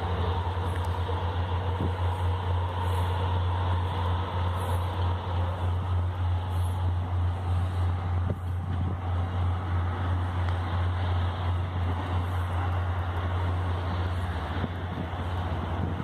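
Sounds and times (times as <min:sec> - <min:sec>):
light hiss: 0:00.0 - 0:15.6
diesel train engine drone: 0:00.0 - 0:16.0.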